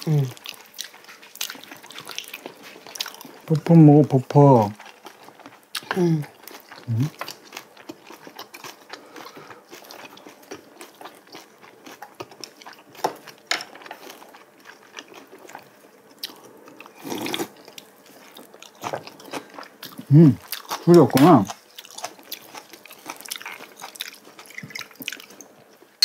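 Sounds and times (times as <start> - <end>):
chewing: 0.0 - 3.7, 4.6 - 25.9.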